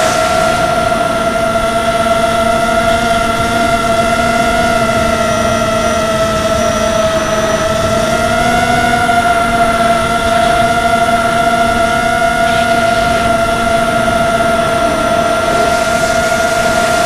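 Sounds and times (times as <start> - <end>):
drone motors whining: 0.0 - 17.0
wind and airflow noise: 0.0 - 17.0.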